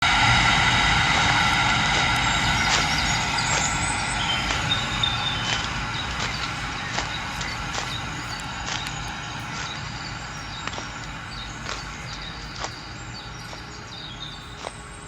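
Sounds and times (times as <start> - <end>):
vehicle engine whining: 0.0 - 15.0.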